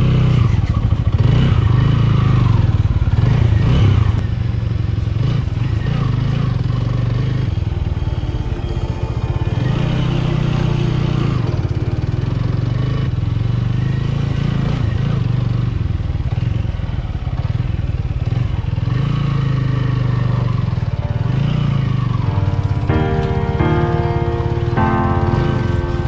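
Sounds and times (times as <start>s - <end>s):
motorcycle engine revving: 0.0s - 22.3s.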